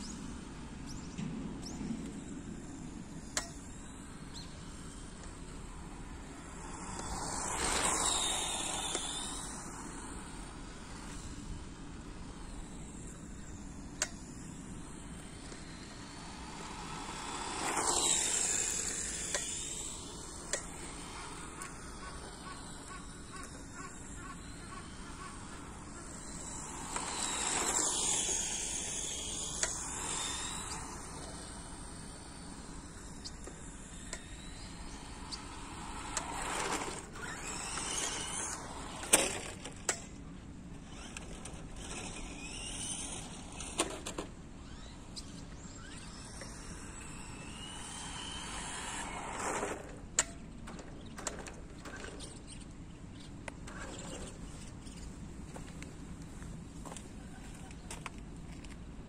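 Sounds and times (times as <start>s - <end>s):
model car motor whine and tyre hiss: 0.0s - 59.0s.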